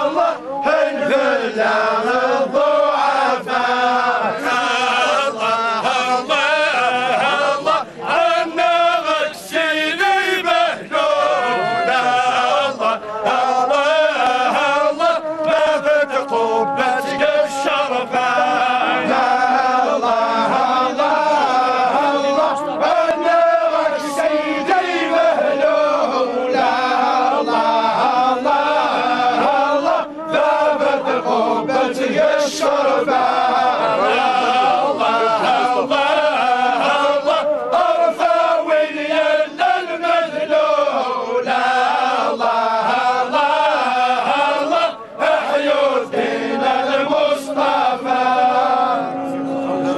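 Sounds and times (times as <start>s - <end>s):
men chanting in unison: 0.0s - 49.9s.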